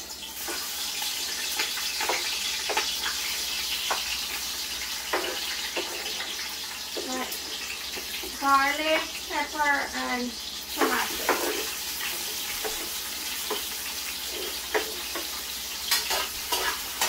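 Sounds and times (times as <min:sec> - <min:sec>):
pan sizzling: 0:00.0 - 0:17.0.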